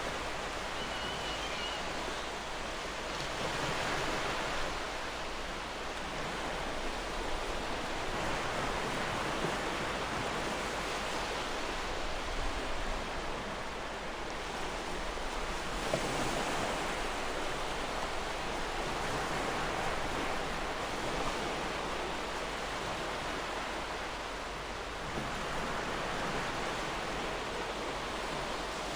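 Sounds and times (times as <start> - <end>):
ocean waves washing ashore: 0.0 - 28.9.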